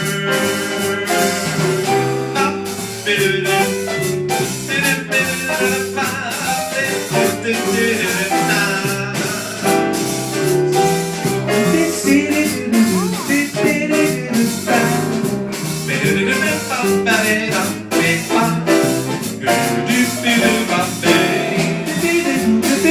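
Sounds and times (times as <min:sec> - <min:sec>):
bass: 0:00.0 - 0:22.9
drum kit: 0:00.0 - 0:22.9.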